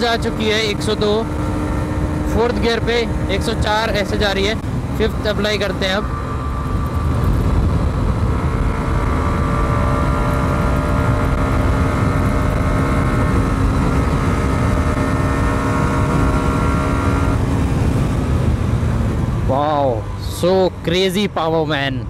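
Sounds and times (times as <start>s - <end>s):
wind rumble on microphone: 0.0s - 20.2s
motorcycle engine at high speed: 0.0s - 21.3s.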